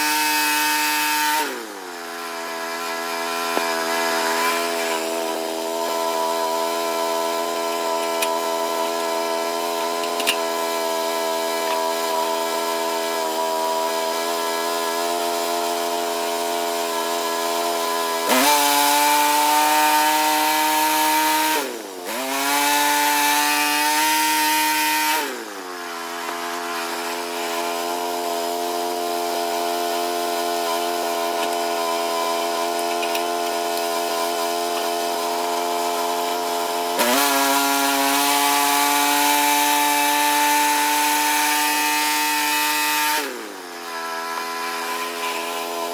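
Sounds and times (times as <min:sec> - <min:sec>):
band blade cutting log: 0:00.0 - 0:45.9
gas engine running: 0:00.0 - 0:45.9.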